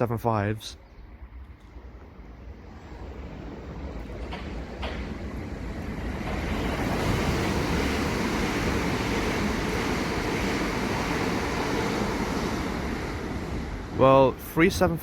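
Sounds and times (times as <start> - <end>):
train passing at speed: 1.0 - 15.0.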